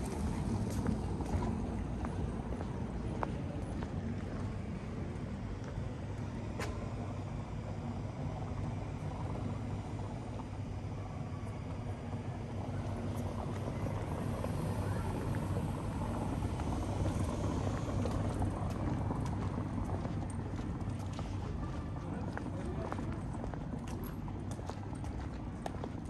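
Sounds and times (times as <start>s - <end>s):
city traffic rumble: 0.0s - 26.0s.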